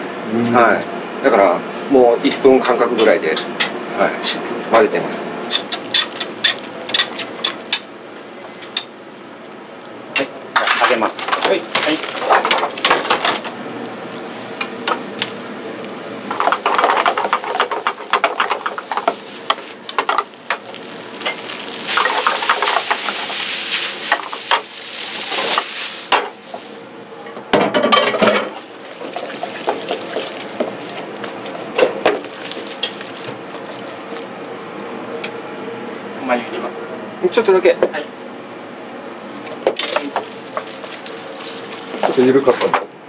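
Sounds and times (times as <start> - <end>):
food sizzling: 5.4 - 35.6, 38.1 - 42.5.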